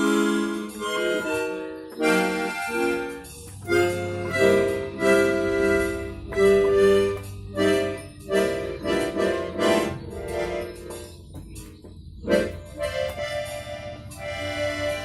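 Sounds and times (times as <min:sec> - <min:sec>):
accordion chords: 0:00.0 - 0:15.0.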